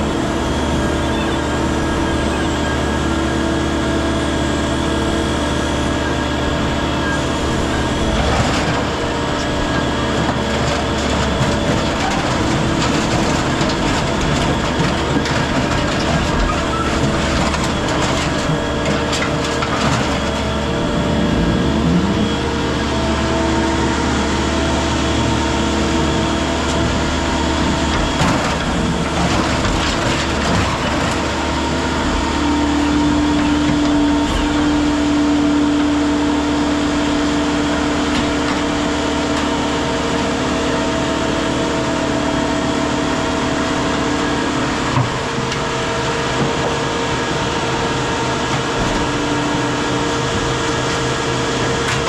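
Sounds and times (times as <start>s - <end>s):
heavy machinery engine hum: 0.0s - 52.0s.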